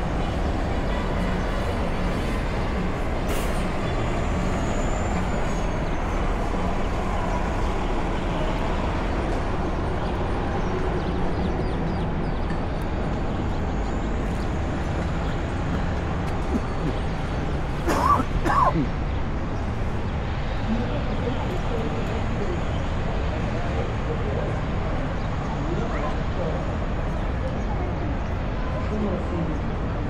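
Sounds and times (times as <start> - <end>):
street traffic rumble: 0.0 - 30.0.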